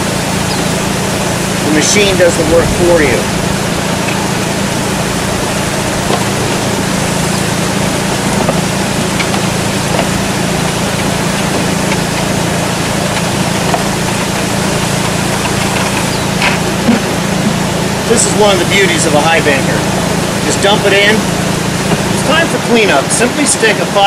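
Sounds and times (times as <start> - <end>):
small engine water pump running: 0.0 - 24.0
water rushing through sluice box: 0.0 - 24.0.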